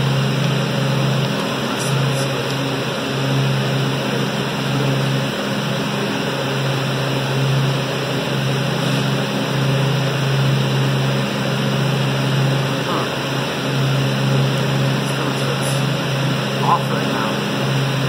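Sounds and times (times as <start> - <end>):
fans rushing air: 0.0 - 18.0
low hum: 0.0 - 18.0.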